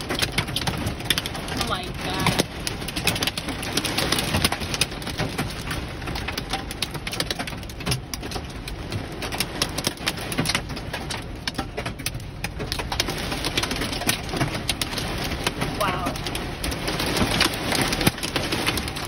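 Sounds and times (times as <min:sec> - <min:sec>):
hail knocking on car: 0:00.0 - 0:19.0.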